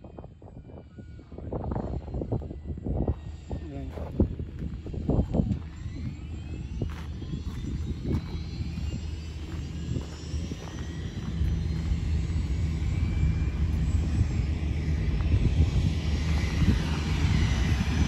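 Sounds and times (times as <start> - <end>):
helicopter rotor rumble: 0.0 - 18.0
turbine whine rising in pitch: 0.0 - 18.0.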